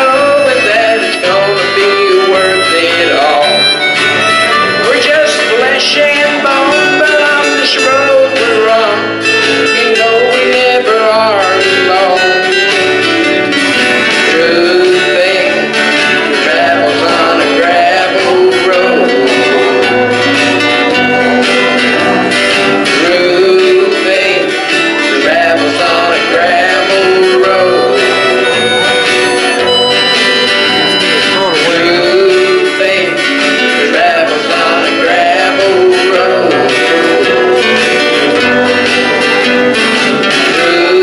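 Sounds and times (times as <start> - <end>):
man singing into microphone: 0.0 - 3.9, 4.6 - 13.0, 13.9 - 41.0
guitar-led accompaniment: 0.0 - 41.0.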